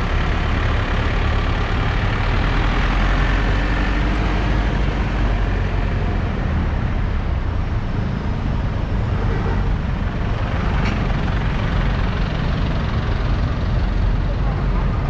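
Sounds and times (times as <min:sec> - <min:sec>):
road and traffic rumble: 0:00.0 - 0:15.0.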